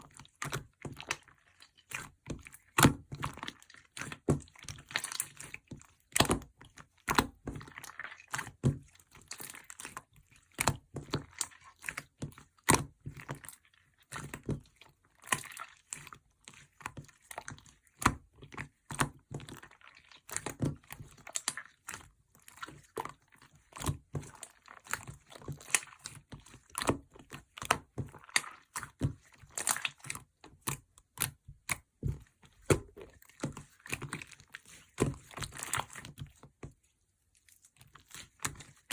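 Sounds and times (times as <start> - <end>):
slime squished by hand: 0.1 - 38.9.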